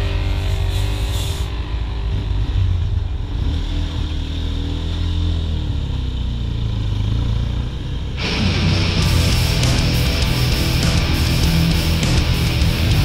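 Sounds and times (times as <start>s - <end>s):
motorcycle engine running: 0.0s - 13.0s
truck engine and tyres: 0.0s - 13.0s.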